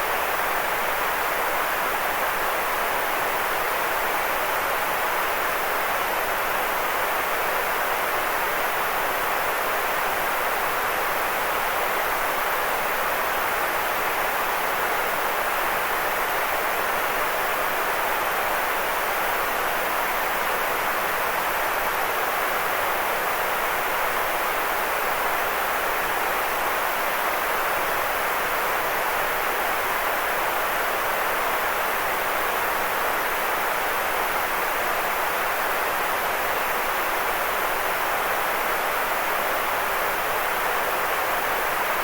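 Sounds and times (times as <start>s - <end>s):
white noise hiss: 0.0s - 42.0s.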